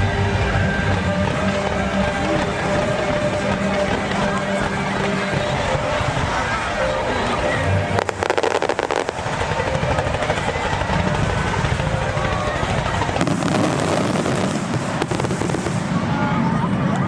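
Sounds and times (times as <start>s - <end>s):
fireworks crackling and popping: 0.0s - 6.8s, 8.0s - 16.2s
rumbling din: 0.0s - 16.2s
faint crowd voices: 0.0s - 17.0s.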